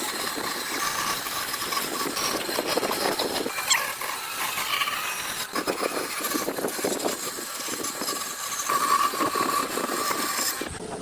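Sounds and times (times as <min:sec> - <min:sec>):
tool scraping wood: 0:00.0 - 0:10.8.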